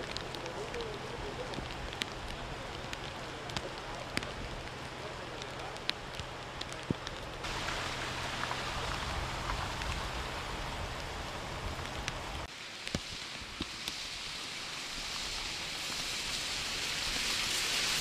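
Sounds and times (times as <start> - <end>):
heavy rain on a street: 0.0 - 18.0.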